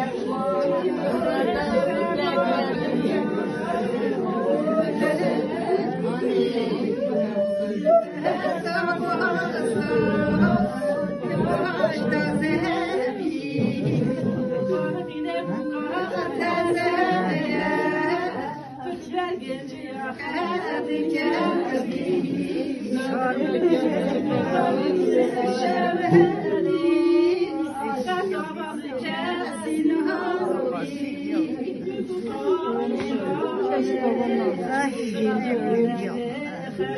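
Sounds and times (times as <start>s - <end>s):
women singing a lament: 0.0s - 36.9s.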